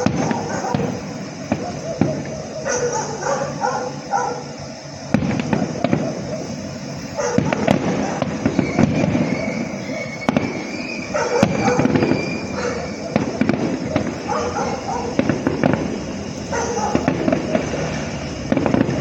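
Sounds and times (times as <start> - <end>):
fireworks popping and banging: 0.0 - 19.0.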